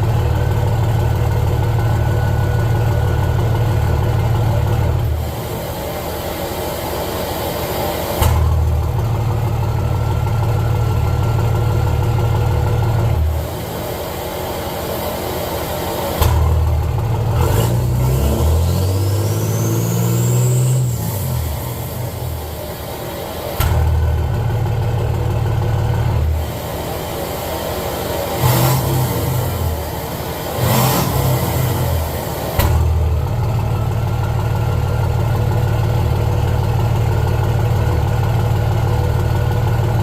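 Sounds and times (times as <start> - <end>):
diesel truck engine driving: 0.0 - 40.0.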